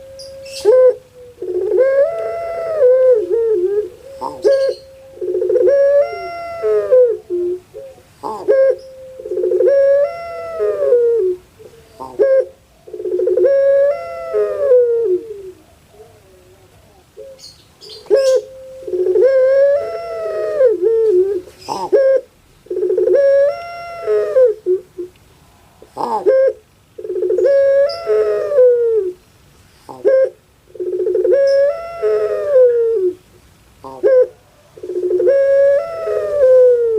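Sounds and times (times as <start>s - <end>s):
dove cooing: 0.0s - 25.2s, 25.8s - 29.2s, 29.9s - 36.9s.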